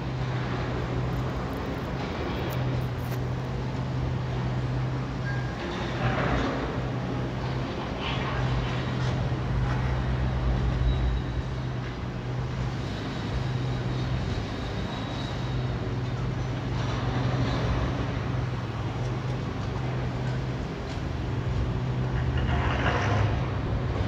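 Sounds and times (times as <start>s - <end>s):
heavy engine running: 0.0s - 24.0s
street traffic: 0.0s - 24.0s.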